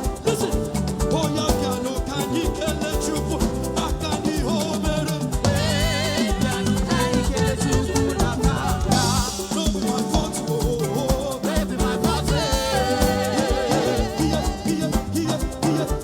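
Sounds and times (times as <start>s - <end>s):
live gospel band music: 0.0s - 16.0s.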